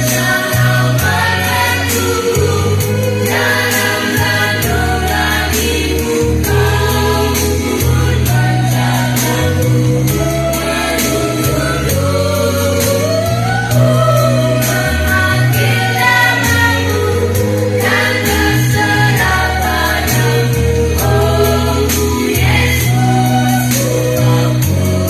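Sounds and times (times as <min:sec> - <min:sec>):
bass line: 0:00.0 - 0:25.0
steady drum beat: 0:00.0 - 0:25.0.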